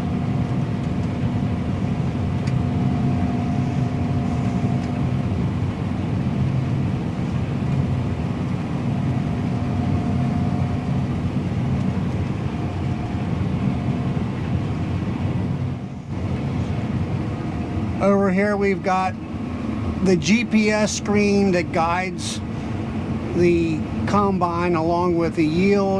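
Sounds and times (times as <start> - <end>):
harvester engine and machinery drone: 0.0 - 25.9
high machinery whine: 0.0 - 25.9.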